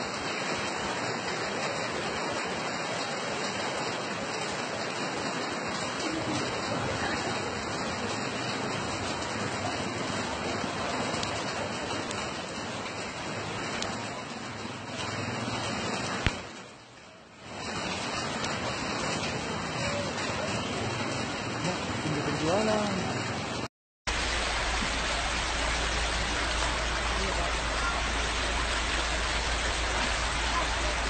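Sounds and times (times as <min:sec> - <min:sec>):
flood water rushing: 0:00.0 - 0:16.7, 0:17.3 - 0:31.0.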